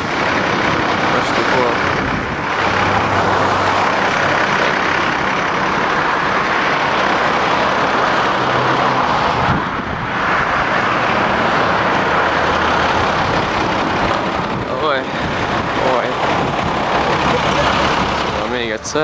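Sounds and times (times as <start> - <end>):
coach engine idling: 0.0 - 19.0.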